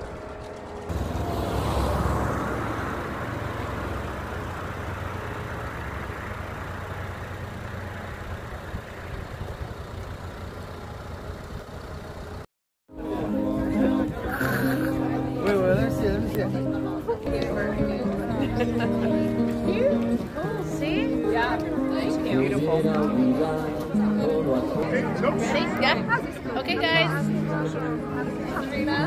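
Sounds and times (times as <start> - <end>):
passing road traffic hum: 0.0 - 29.0.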